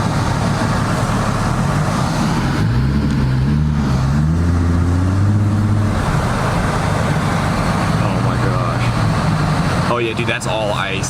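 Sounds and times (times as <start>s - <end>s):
car engine accelerating: 0.0s - 11.0s
road noise: 0.0s - 11.0s.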